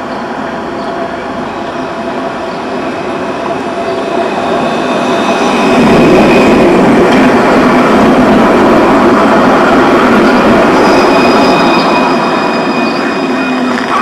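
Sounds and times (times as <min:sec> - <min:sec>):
faint high whine: 0:00.0 - 0:14.0
tram rumbling on rails: 0:00.0 - 0:14.0.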